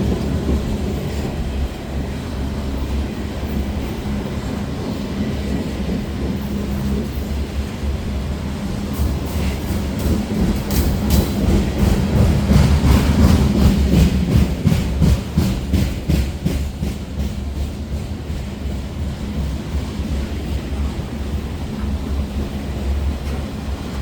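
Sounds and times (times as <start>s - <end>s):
low train rumble: 0.0s - 24.0s
train wheels clicking over joints: 0.0s - 24.0s.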